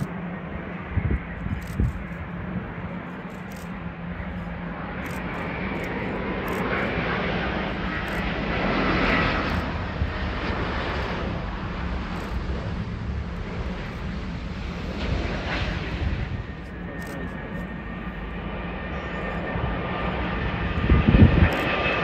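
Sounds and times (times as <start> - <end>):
jet engines passing: 0.0 - 22.0.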